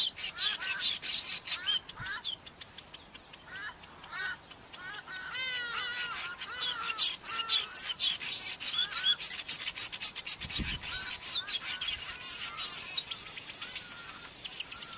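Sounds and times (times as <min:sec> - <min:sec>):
bird chattering: 0:00.0 - 0:14.9.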